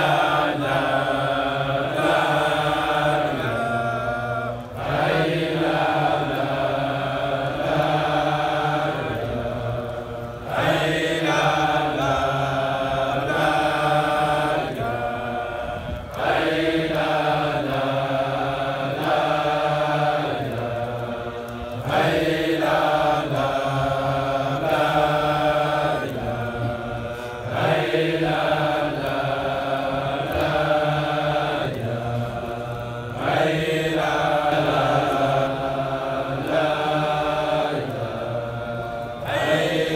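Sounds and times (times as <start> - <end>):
men chanting: 0.0 - 39.9.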